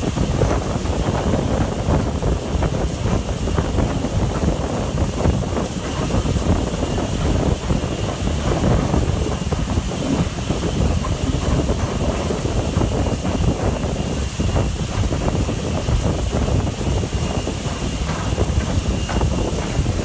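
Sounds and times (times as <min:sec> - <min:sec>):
steam hissing: 0:00.0 - 0:20.0
steam locomotive working hard: 0:00.0 - 0:20.0
wind buffeting microphone: 0:00.0 - 0:20.0.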